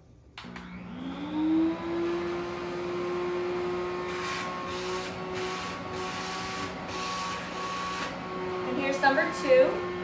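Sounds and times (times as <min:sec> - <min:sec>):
vacuum motor whine: 0:00.4 - 0:10.0.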